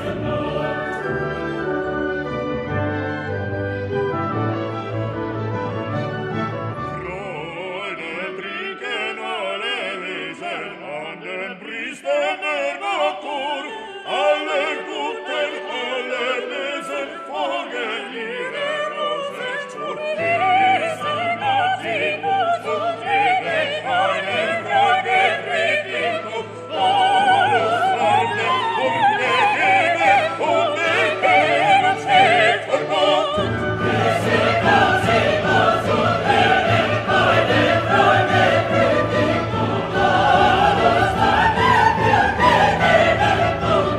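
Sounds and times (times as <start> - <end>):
operatic singing with orchestra: 0.0 - 43.9.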